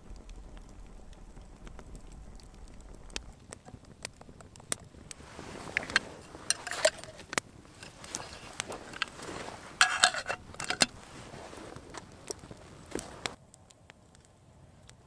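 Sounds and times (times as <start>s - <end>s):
wind rumbling on microphone: 0.0s - 13.4s
campfire crackling and popping: 0.0s - 15.0s.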